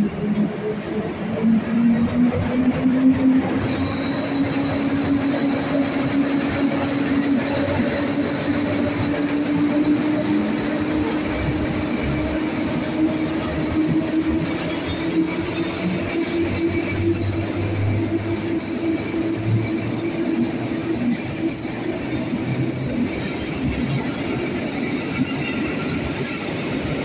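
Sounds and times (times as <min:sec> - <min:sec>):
train wheels rumbling: 0:00.0 - 0:27.0
high wheel squeal: 0:03.4 - 0:26.6.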